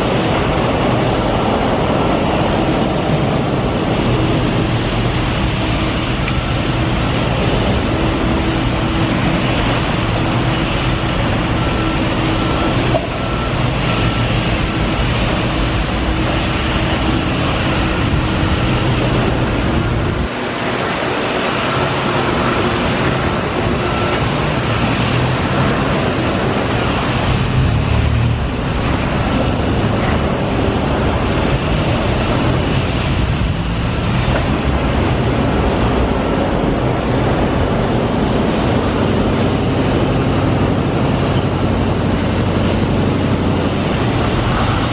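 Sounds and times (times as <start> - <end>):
diesel machinery engine drone: 0.0 - 44.9.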